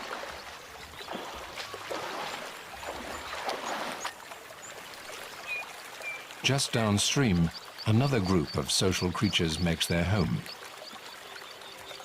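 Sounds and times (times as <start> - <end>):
water splashing in river: 0.0 - 12.0.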